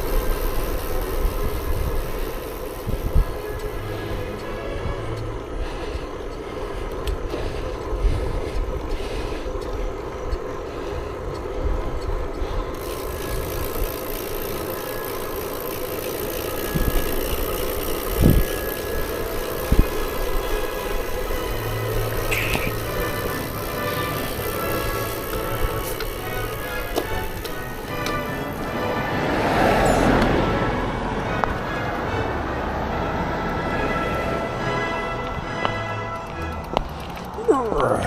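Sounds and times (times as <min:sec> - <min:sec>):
wind and road noise from bicycle: 0:00.0 - 0:38.0.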